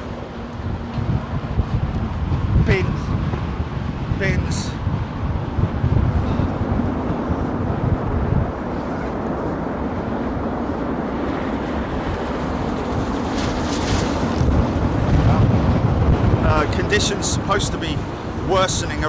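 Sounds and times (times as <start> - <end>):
jet engines roaring: 0.0 - 19.0
wind buffeting microphone: 0.0 - 19.0.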